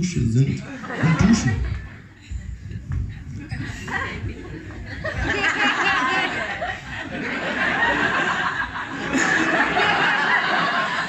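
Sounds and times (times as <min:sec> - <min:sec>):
audience laughing: 0:00.5 - 0:11.0.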